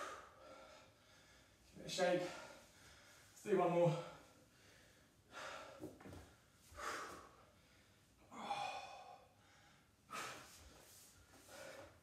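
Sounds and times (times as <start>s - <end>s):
man breathing heavily: 0.0s - 12.0s.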